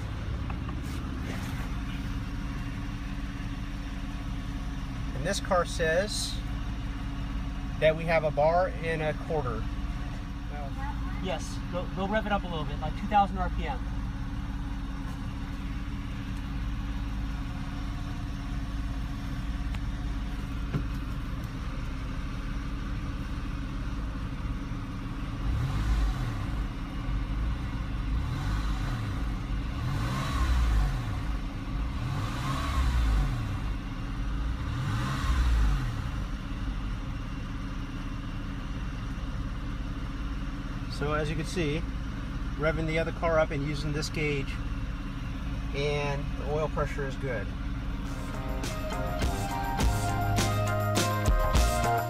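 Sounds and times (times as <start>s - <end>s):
car engine idling and revving: 0.0s - 52.0s.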